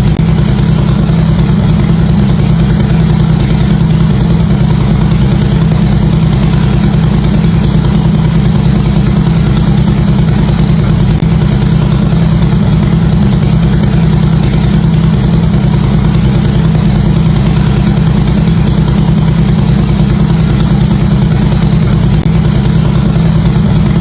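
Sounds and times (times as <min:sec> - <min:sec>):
motorcycle exhaust idling: 0:00.0 - 0:24.0.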